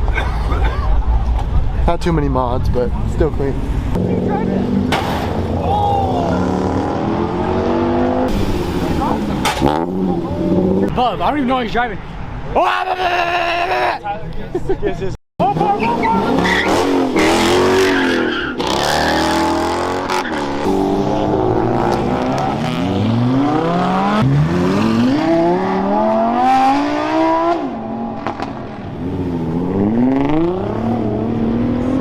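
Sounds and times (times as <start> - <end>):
car engines revving: 0.0 - 12.5, 15.4 - 32.0.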